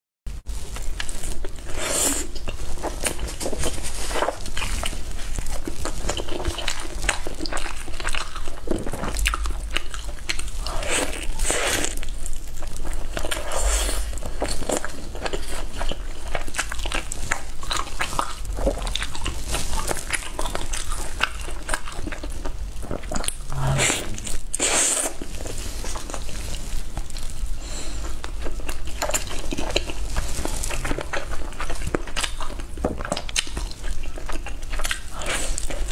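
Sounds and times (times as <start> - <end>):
low steady hum: 0.3 - 33.0
person chewing: 0.6 - 35.9.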